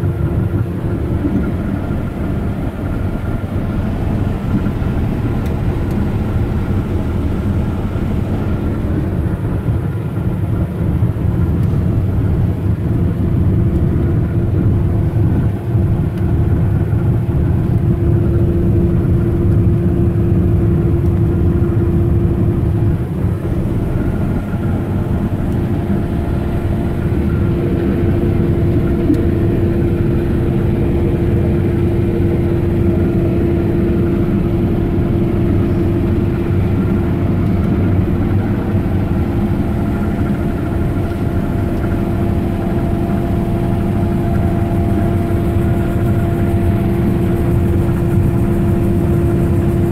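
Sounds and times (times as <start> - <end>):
harvest machinery engine drone: 0.0 - 49.9
mid-pitched hum: 0.0 - 49.9.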